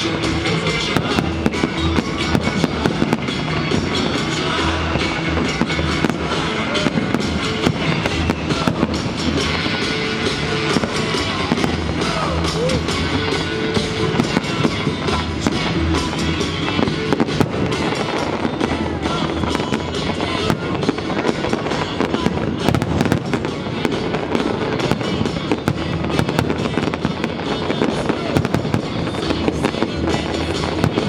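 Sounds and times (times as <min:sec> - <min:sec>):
fireworks bursting and crackling: 0:00.0 - 0:31.0
music playing: 0:00.0 - 0:31.0.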